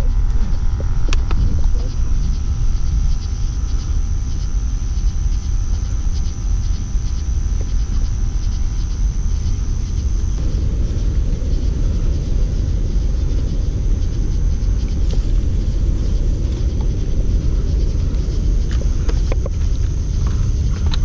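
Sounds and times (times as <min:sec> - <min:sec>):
high-pitched whine: 0:00.0 - 0:21.0
wind buffeting microphone: 0:00.0 - 0:21.0.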